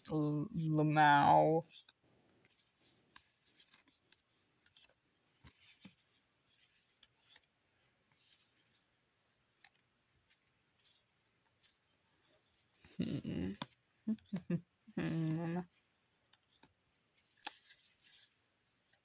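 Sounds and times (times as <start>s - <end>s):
trading cards scraping and rustling: 1.6s - 14.5s, 15.1s - 19.0s.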